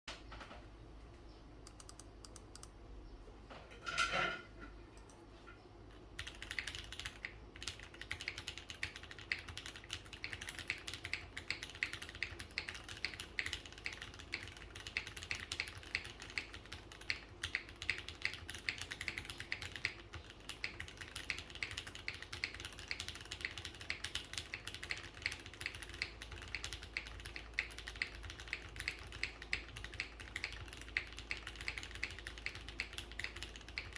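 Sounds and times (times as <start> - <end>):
mechanical keyboard typing: 1.6 - 2.7, 6.2 - 33.9.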